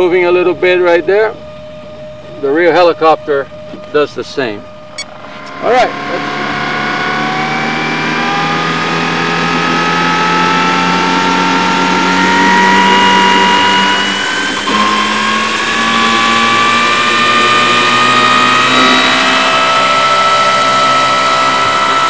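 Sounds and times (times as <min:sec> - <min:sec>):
model helicopter motor whine: 0:00.0 - 0:22.0.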